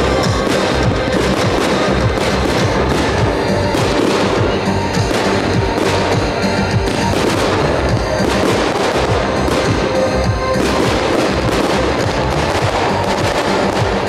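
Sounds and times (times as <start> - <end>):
fireworks bursting and crackling: 0.0 - 14.0
loud music: 0.0 - 14.0.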